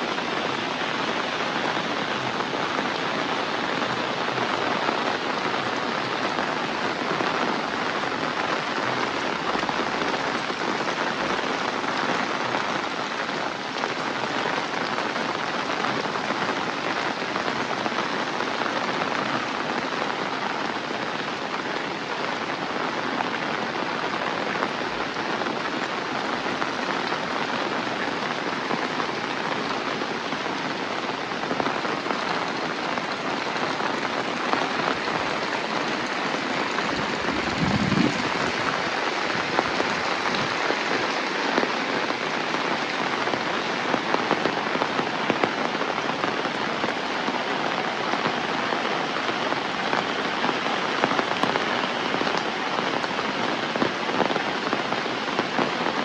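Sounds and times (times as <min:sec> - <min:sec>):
heavy rain falling: 0:00.0 - 0:56.0
raindrops spattering on surfaces: 0:00.0 - 0:56.0.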